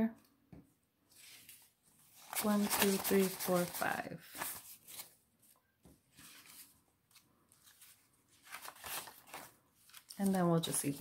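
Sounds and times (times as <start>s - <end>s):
banknotes rustling and flicking: 1.1s - 11.0s.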